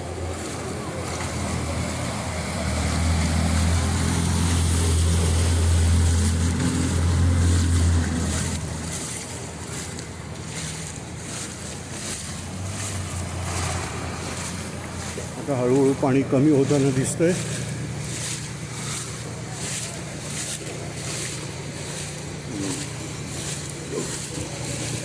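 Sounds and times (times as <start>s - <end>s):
floodwater hissing: 0.0s - 25.0s
low engine hum: 0.0s - 25.0s.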